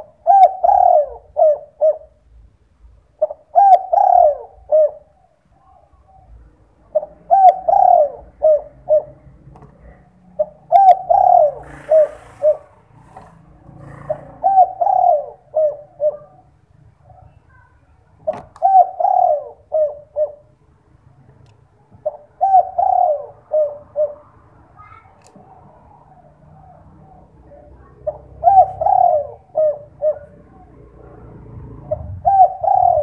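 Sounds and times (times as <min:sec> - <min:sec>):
dove cooing: 0:00.0 - 0:02.3, 0:03.2 - 0:20.6, 0:21.9 - 0:33.0.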